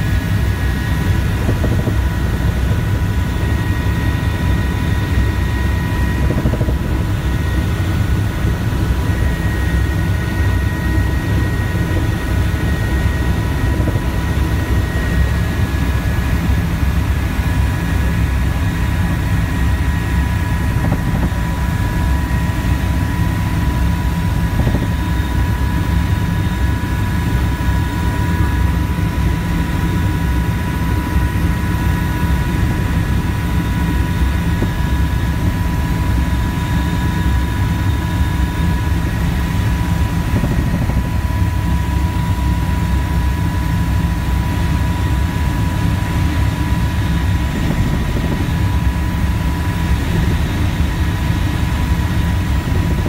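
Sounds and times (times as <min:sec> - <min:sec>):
helicopter rotor and engine rumble: 0:00.0 - 0:53.0
high-pitched whine: 0:00.0 - 0:53.0.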